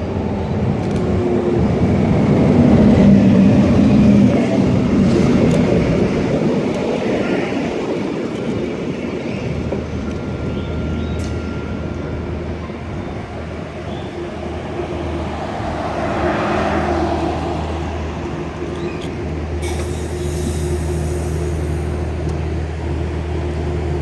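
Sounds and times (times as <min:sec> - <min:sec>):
electric locomotive humming: 0:00.0 - 0:24.0
train rolling on rails: 0:00.0 - 0:24.0.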